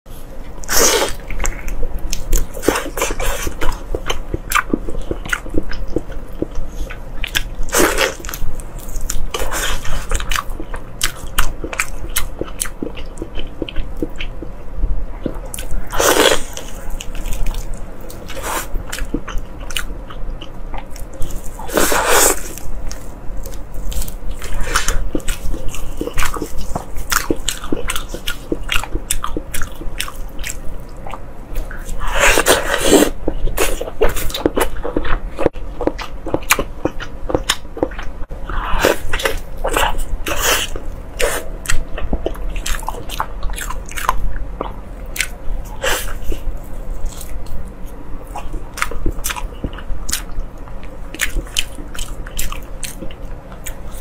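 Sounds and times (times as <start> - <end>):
chewing fried food: 0.1 - 54.0.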